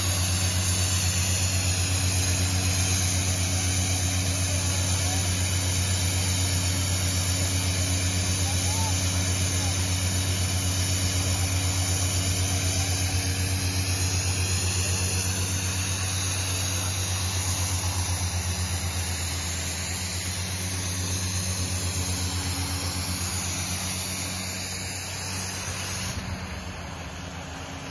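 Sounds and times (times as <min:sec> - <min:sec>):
air compressor running: 0:00.0 - 0:27.9
water blasting from a pipe: 0:00.0 - 0:27.9.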